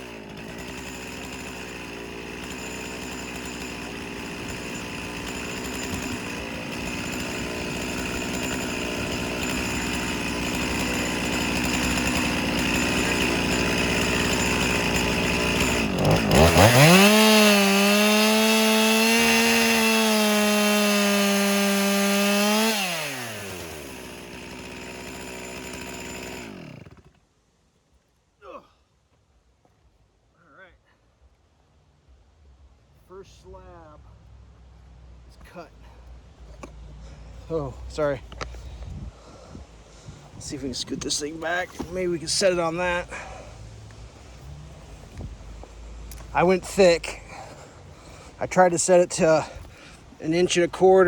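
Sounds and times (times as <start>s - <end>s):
chainsaw cutting log: 0.0s - 27.2s, 35.4s - 51.0s.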